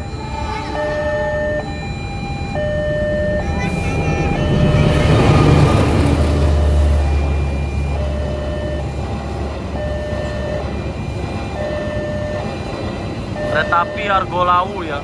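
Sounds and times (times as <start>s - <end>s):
level crossing alarm: 0.0s - 15.0s
train passing rumble: 0.0s - 15.0s.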